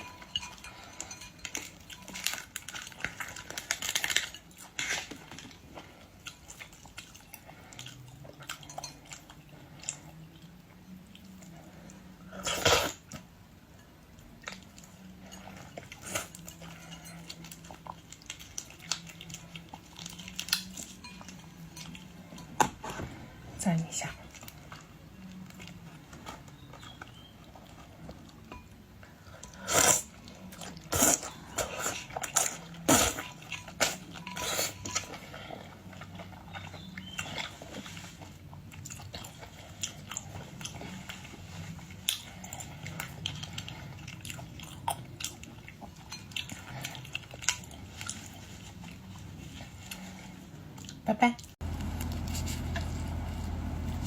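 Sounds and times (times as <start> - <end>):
person chewing seafood: 0.0 - 23.4, 24.3 - 54.0.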